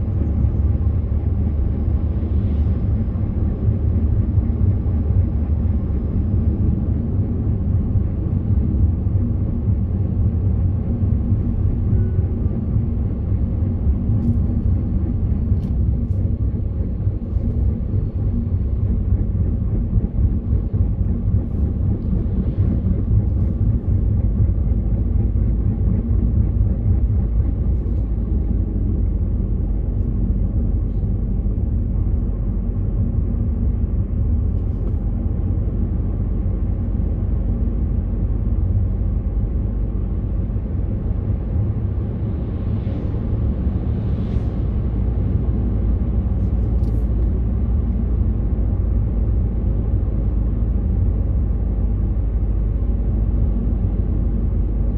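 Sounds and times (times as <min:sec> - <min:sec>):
car interior road rumble: 0:00.0 - 0:54.9.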